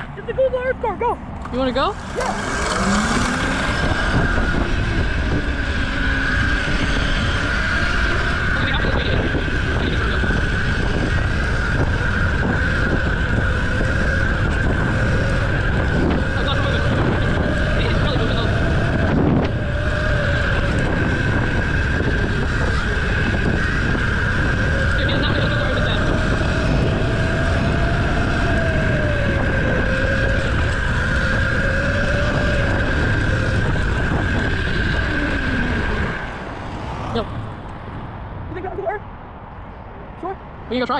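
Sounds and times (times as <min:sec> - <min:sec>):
mini bike engine whining: 0:00.0 - 0:37.9
wind buffeting microphone: 0:00.0 - 0:40.9.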